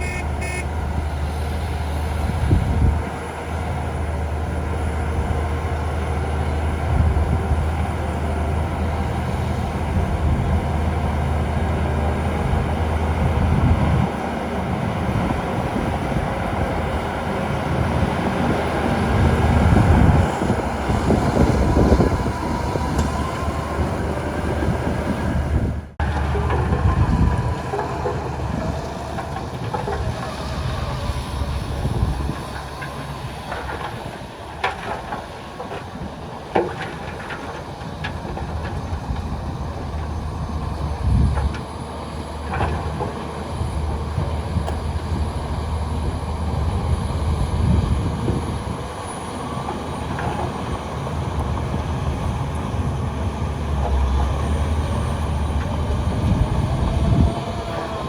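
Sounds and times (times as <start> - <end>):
diesel machinery rumbling: 0.0 - 58.0.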